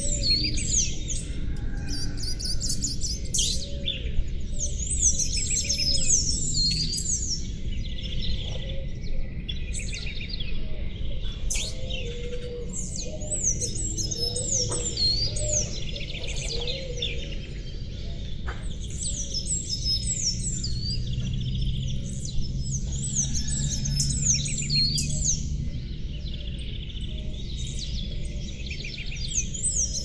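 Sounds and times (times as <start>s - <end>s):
songbirds chirping and singing: 0.0s - 30.0s.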